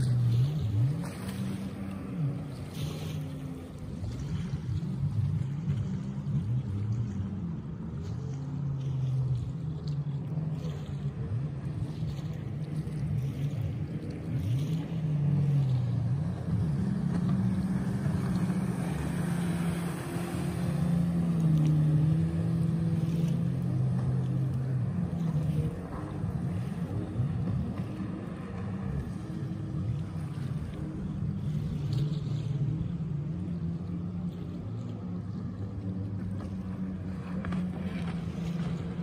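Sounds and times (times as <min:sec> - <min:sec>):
jet ski engines: 0:00.0 - 0:39.0.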